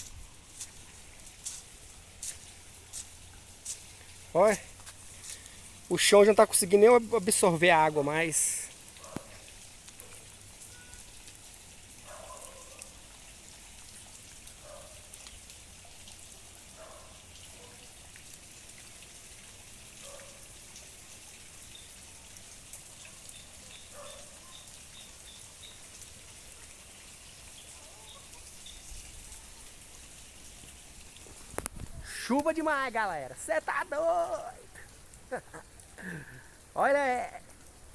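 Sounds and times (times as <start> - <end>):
drips and splashes: 0.0 - 37.9
heavy rain: 0.0 - 37.9.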